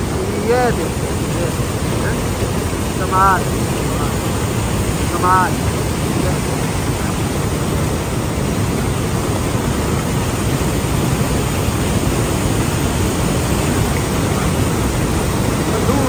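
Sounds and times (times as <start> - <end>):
rapids rushing over rocks: 0.0 - 16.0.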